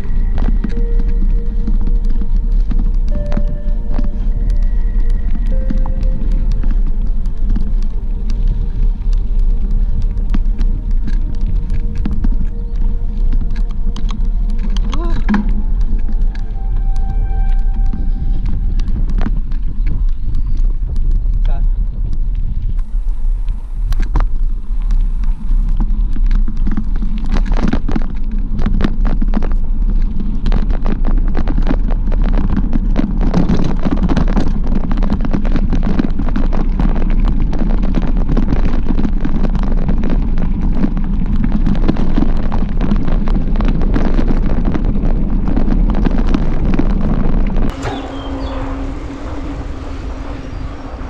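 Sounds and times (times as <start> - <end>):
bike tyres on gravel: 0.0 - 51.0
wind buffeting microphone: 0.0 - 51.0.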